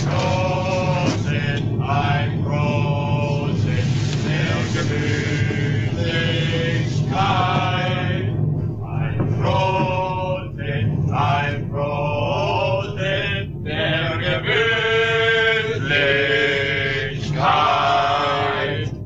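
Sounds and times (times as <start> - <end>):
group of men singing: 0.0 - 19.0.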